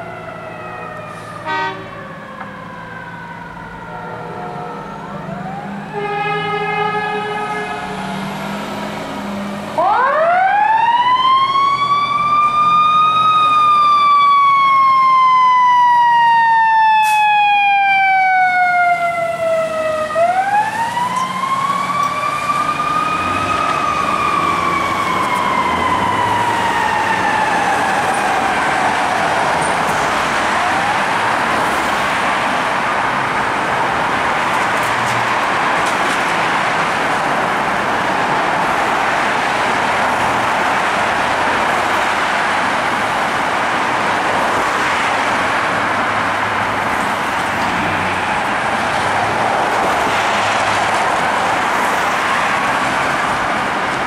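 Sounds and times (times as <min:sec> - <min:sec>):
engine and traffic noise: 0:00.0 - 0:54.0
fire truck siren wailing: 0:00.0 - 0:54.0.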